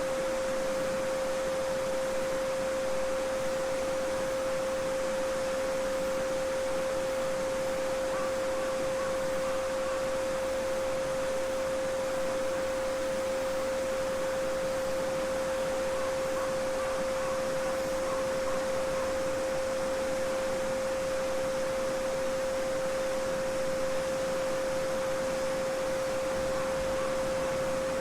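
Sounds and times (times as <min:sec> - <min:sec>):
steady sine tone: 0:00.0 - 0:28.0.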